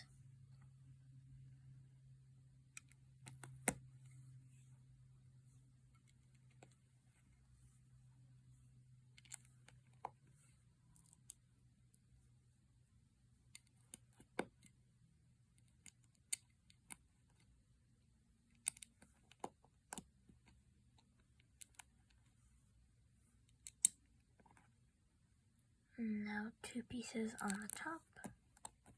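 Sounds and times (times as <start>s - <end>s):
faint low hum: 0.0s - 28.9s.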